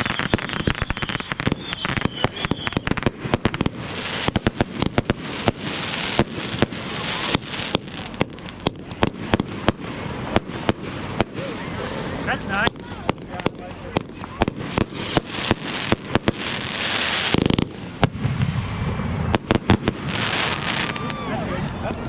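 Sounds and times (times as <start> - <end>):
fireworks bangs and pops: 0.0 - 22.0.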